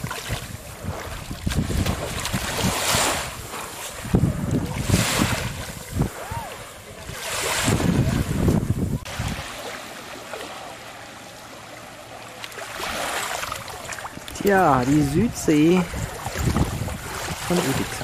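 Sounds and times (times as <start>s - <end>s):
wind buffeting microphone: 0.0s - 9.7s, 12.8s - 18.0s
shallow sea water washing: 0.0s - 18.0s.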